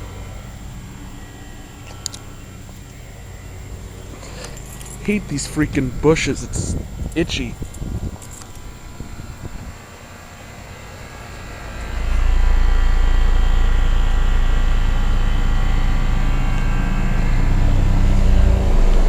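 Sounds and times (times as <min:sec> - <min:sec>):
air conditioner unit humming: 0:00.0 - 0:19.0.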